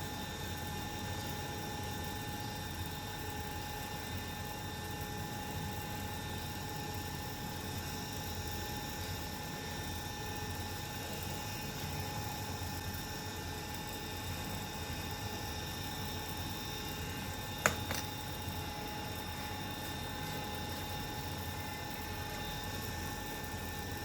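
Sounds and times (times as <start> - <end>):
table fan motor whirring: 0.0 - 24.0.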